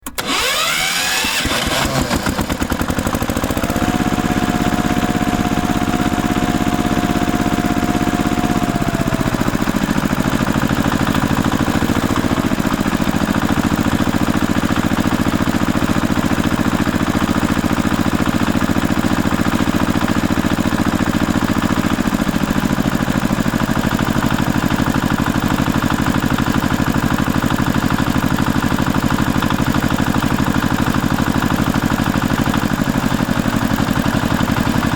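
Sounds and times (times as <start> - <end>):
tractor engine starting and running: 0.0 - 34.9.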